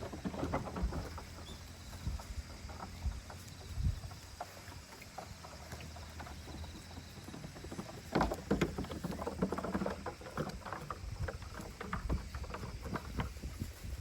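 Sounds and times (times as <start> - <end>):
goat hooves clattering: 0.0 - 14.0.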